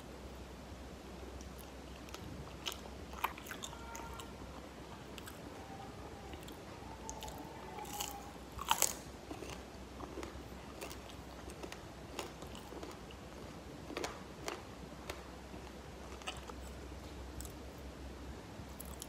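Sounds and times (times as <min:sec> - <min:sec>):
crunchy chewing: 0:01.4 - 0:05.6, 0:06.3 - 0:17.9, 0:18.7 - 0:19.0.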